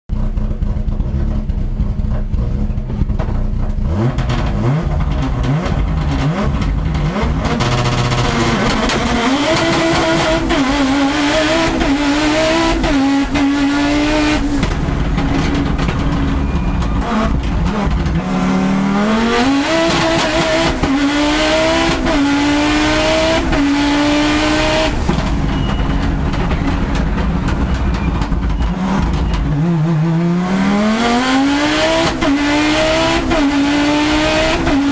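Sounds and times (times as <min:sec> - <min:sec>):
rally car engine revving: 0:00.1 - 0:34.9.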